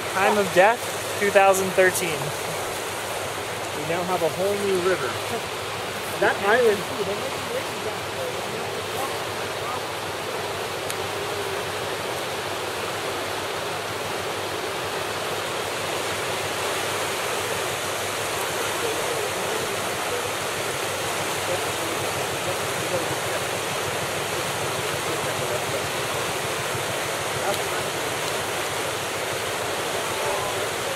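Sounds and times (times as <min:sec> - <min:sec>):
river rushing over gravel rapids: 0:00.0 - 0:30.9.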